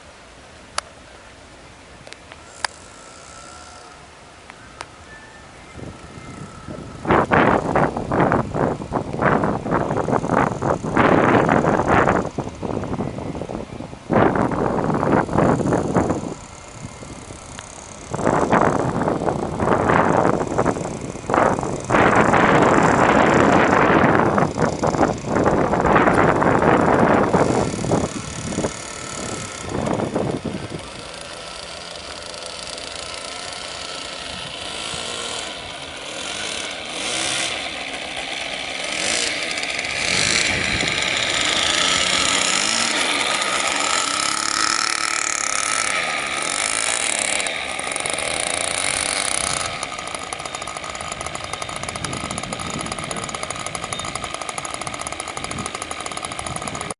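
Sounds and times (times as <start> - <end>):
model airplane engine running: 0.0 - 56.9
wind gusting on microphone: 5.5 - 56.9.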